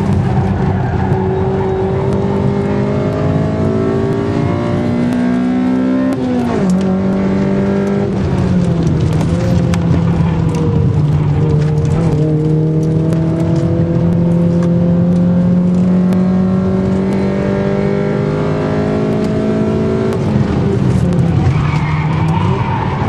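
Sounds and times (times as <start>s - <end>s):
car engine accelerating: 0.0s - 23.0s
road and wind noise: 0.0s - 23.0s.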